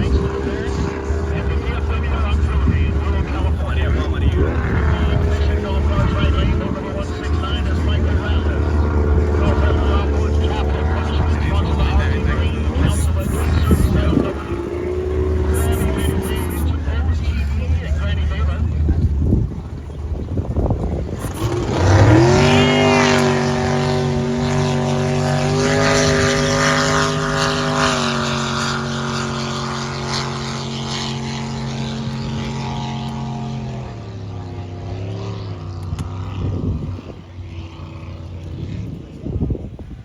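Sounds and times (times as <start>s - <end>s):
racing boat engines: 0.0s - 40.0s.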